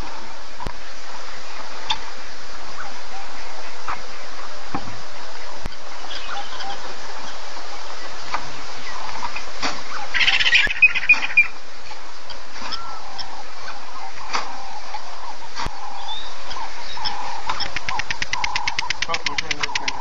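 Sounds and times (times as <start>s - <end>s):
steady hiss: 0.0s - 20.0s
wild birds chirping: 0.0s - 20.0s.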